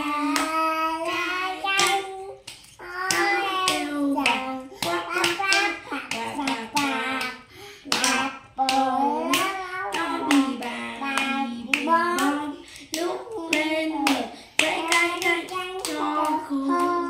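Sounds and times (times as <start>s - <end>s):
children singing: 0.0s - 17.0s
hand claps: 0.2s - 17.0s.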